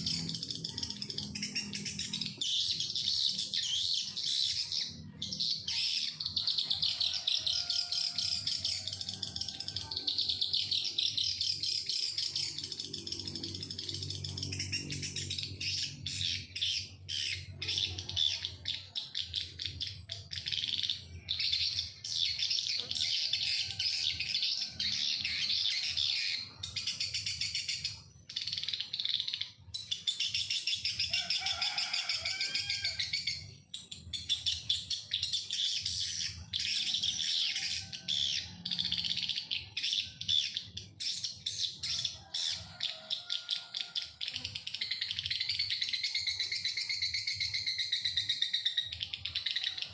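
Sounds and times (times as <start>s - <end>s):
birds chirping and twittering: 0.0s - 49.9s.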